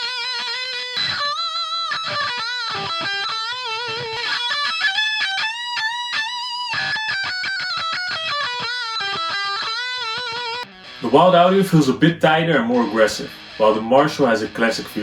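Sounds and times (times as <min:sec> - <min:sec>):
distorted electric guitar lead: 0:00.0 - 0:15.0.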